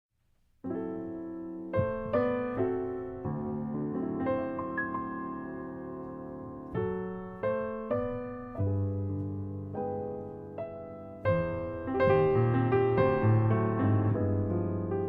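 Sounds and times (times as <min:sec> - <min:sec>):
piano playing slow jazz chords: 0:00.6 - 0:15.0.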